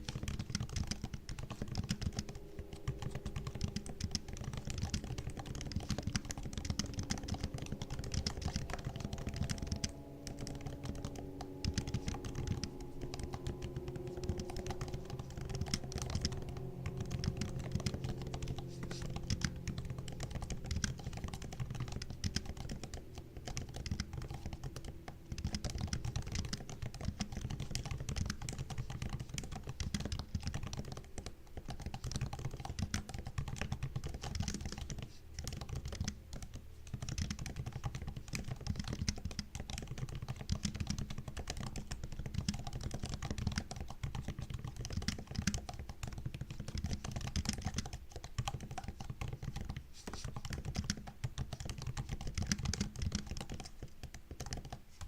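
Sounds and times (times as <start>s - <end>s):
laptop keyboard typing: 0.0s - 55.0s.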